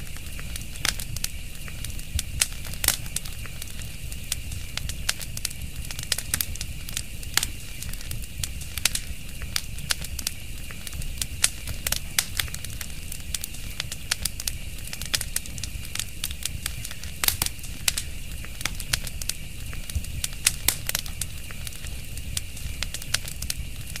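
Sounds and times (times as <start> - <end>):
fire crackling: 0.0 - 24.0.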